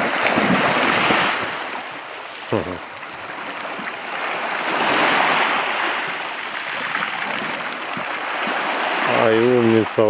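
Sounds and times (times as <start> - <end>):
surf washing on rocks: 0.0 - 10.0.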